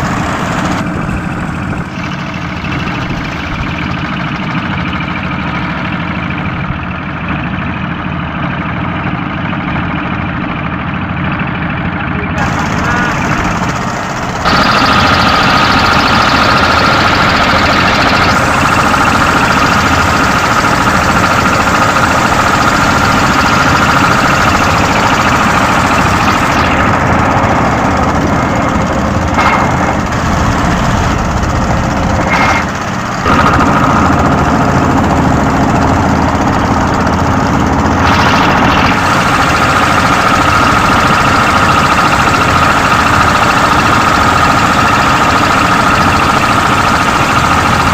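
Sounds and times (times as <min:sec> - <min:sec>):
boat engine rumbling with whine: 0:00.0 - 0:47.9.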